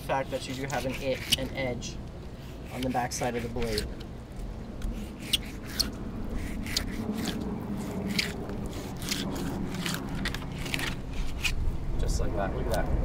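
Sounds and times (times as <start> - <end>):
knife scraping fish skin: 0.0 - 4.0, 4.8 - 11.6
low steady hum: 0.0 - 13.0.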